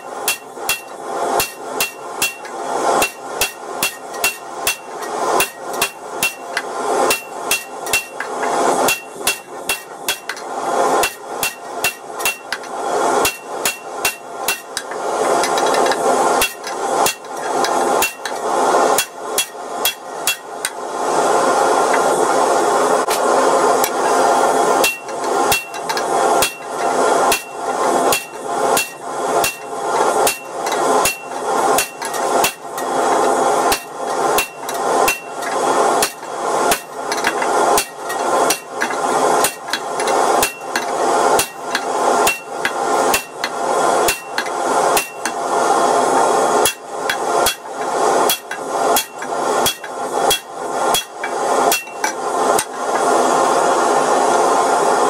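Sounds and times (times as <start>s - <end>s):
hammer striking hot steel on anvil: 0.0s - 54.0s
steady rushing noise: 0.0s - 55.0s.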